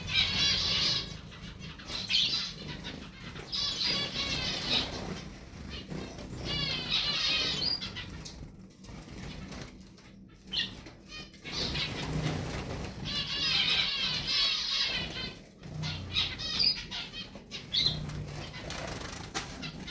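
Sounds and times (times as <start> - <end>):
songbirds twittering: 0.0 - 19.9.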